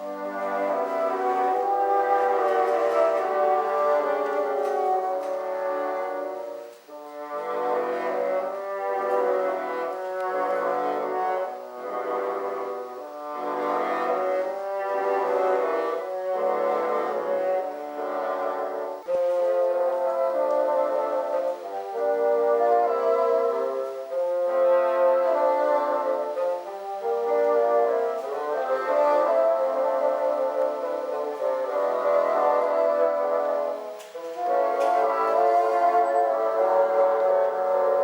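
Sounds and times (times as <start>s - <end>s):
bassoon ensemble playing chords: 0.0s - 38.0s.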